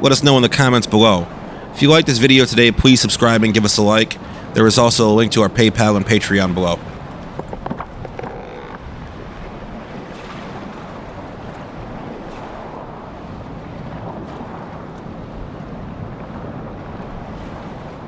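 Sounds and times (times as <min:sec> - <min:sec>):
sea waves rushing: 0:00.0 - 0:18.0
wind: 0:00.0 - 0:18.0.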